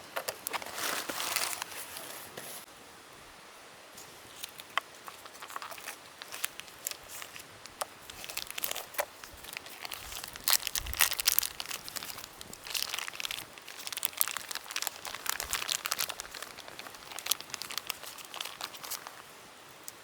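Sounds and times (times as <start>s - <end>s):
wrapping crinkling and rustling: 0.1s - 2.7s, 4.0s - 20.0s.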